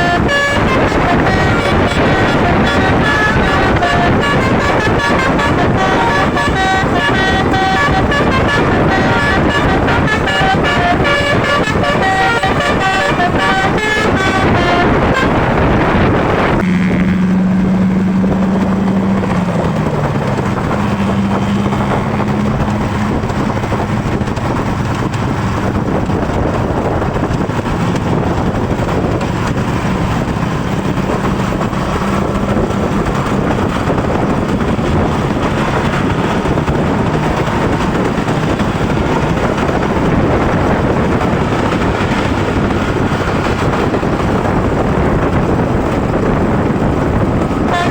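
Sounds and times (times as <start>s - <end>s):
engine drone: 0.0s - 47.9s
road and wind noise: 0.0s - 47.9s.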